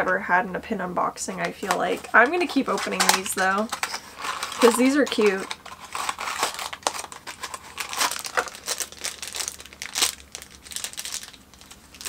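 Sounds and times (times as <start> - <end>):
wrapper crinkling and tearing: 1.6 - 12.0.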